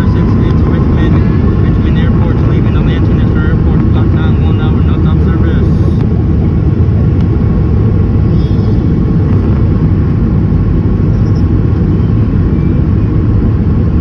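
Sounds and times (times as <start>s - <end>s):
airplane engines rumbling: 0.0s - 14.0s.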